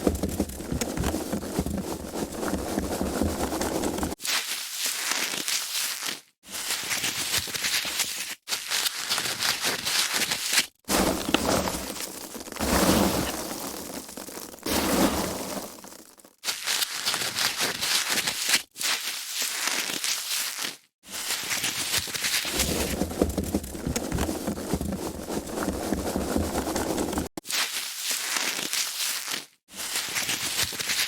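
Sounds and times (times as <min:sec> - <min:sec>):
foam packaging squeaking and crackling: 0:00.0 - 0:31.0.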